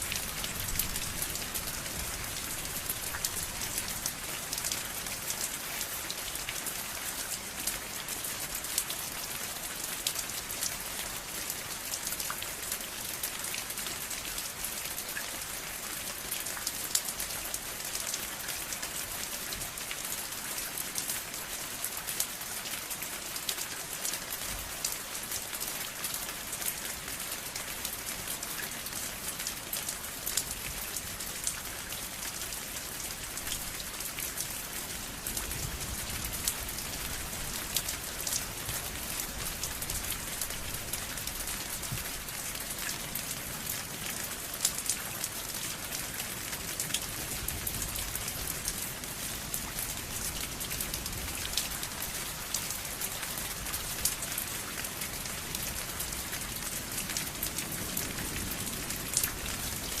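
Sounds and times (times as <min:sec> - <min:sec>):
rain pattering on a surface: 0:00.0 - 1:00.0.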